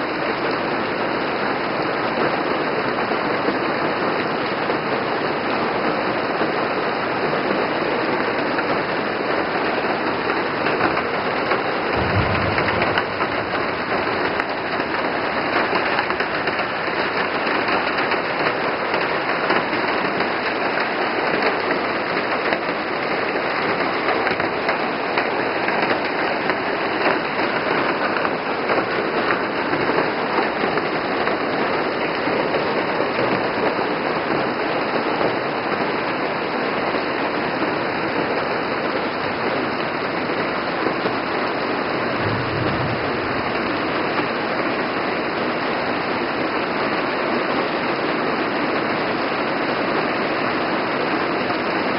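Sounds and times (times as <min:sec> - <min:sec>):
heavy rain on leaves: 0:00.0 - 0:51.9
water streaming off roof: 0:00.0 - 0:51.9.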